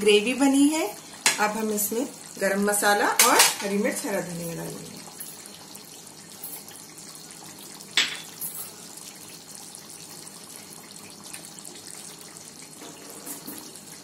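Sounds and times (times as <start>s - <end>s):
gravy simmering and bubbling: 0.1s - 14.0s.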